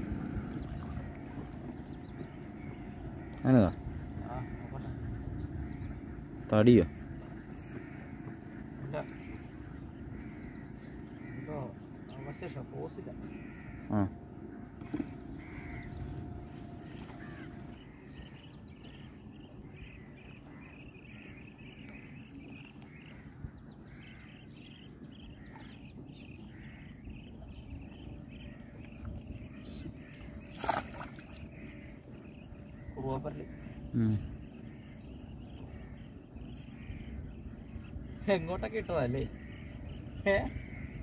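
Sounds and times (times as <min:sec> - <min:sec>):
birds chirping: 0:00.0 - 0:41.0
low outdoor background noise: 0:00.0 - 0:41.0.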